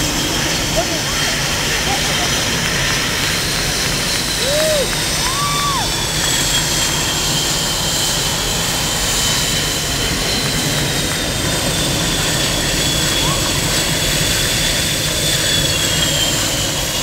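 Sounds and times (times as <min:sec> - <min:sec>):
jet engines with turbine whine: 0:00.0 - 0:17.0.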